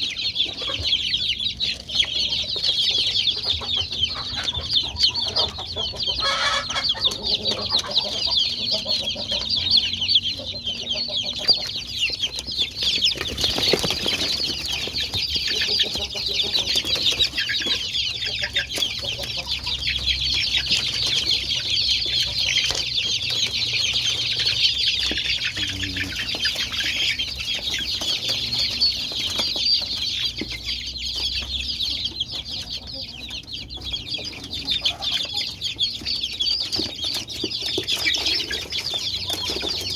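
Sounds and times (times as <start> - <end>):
chicks cheeping: 0.0 - 39.9.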